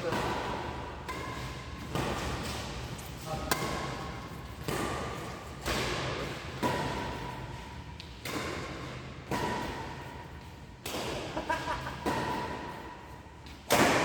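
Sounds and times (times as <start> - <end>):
rackets hitting shuttlecock: 0.0 - 14.0.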